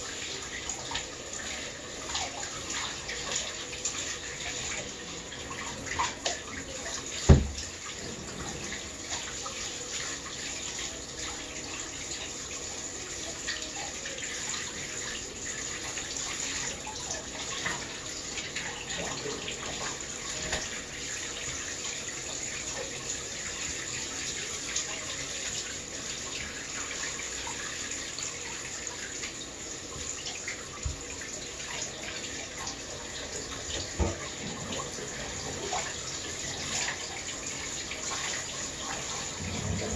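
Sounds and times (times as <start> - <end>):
shower water splashing: 0.0 - 39.9.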